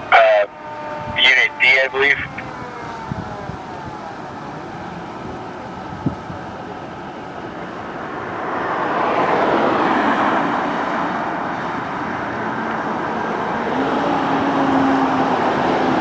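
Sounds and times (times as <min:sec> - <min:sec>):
vehicle passing close by: 0:02.5 - 0:16.0.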